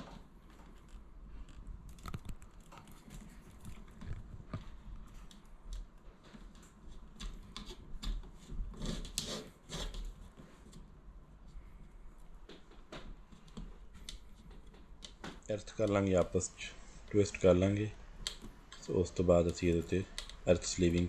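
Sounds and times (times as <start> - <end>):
wire strippers clicking and scraping: 0.0 - 21.0.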